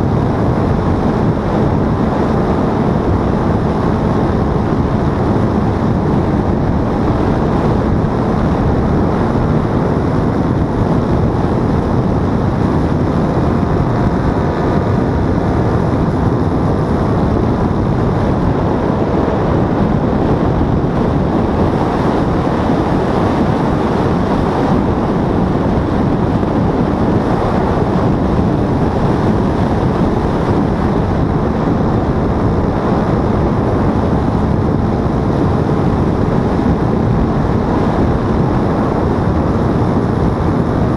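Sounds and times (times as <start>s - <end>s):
paramotor engine and propeller: 0.0s - 40.9s
wind noise on microphone: 0.0s - 40.9s.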